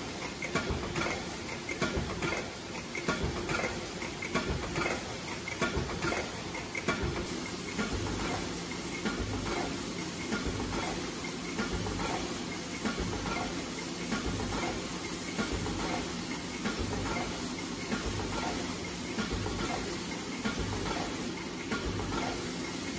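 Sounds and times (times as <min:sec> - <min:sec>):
press machine clattering: 0:00.0 - 0:22.9.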